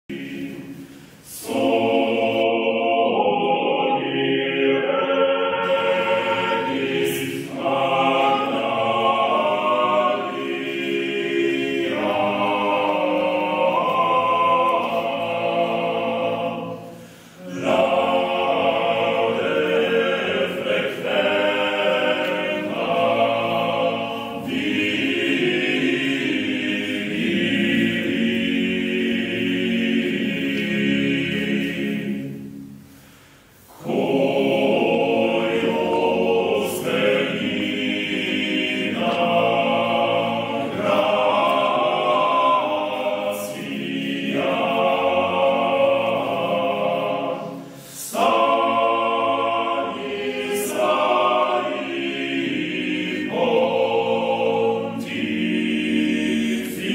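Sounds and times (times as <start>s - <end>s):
male choir singing a cappella: 0.0s - 56.9s.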